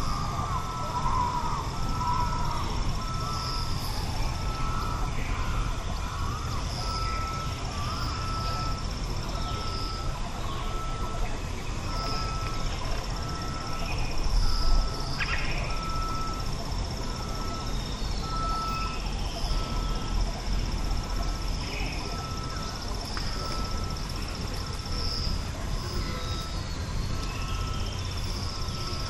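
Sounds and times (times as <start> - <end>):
bird chirps: 0.0 - 16.5, 17.1 - 29.0
insects trilling: 0.0 - 29.0.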